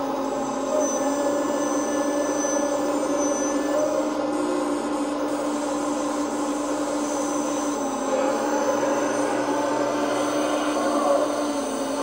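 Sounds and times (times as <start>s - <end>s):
hydraulic pump whine: 0.0s - 12.0s.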